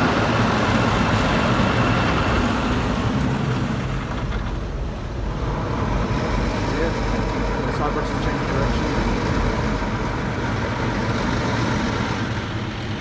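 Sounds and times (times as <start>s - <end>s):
car wash motors running: 0.0s - 13.0s.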